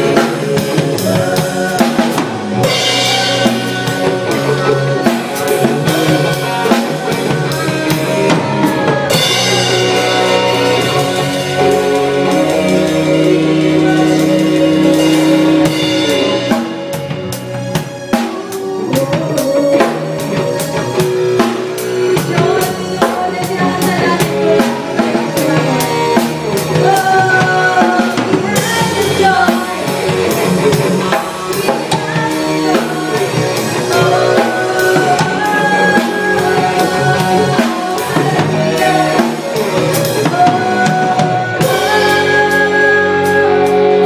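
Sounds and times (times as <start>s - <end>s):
drum kit playing: 0.0s - 44.0s
live band melody: 0.0s - 44.0s.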